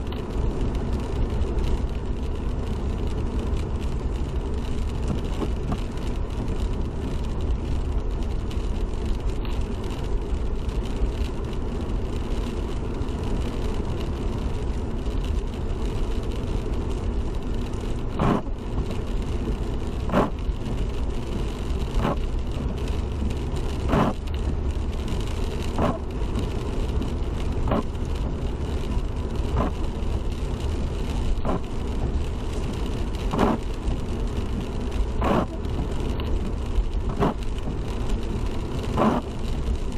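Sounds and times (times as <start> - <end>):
tyre and road noise: 0.0 - 39.9
windshield wipers sweeping: 0.0 - 39.9.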